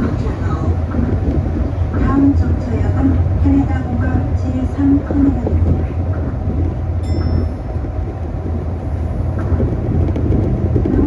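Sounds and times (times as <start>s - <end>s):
train running low rumble: 0.0s - 11.0s.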